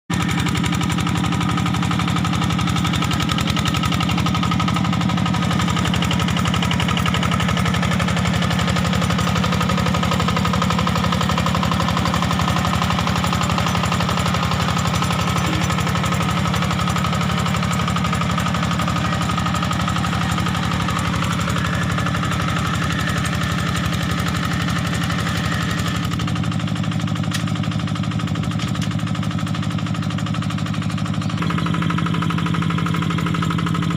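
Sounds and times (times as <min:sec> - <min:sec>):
tractor diesel engine chugging: 0:00.1 - 0:33.9.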